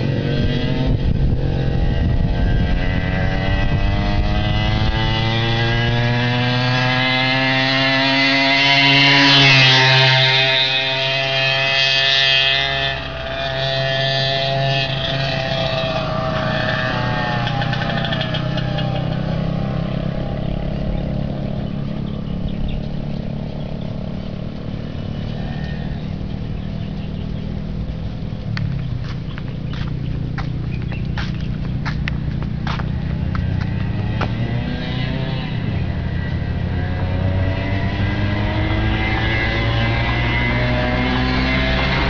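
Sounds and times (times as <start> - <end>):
moped engine riding away: 0.0 - 42.0.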